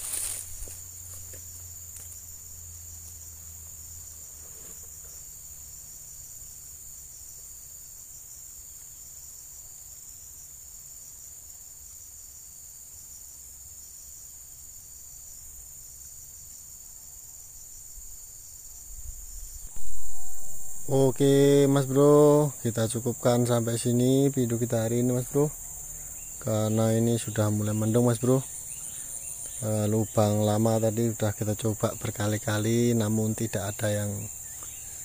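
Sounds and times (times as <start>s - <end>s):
insects droning shrilly: 0.0s - 35.0s.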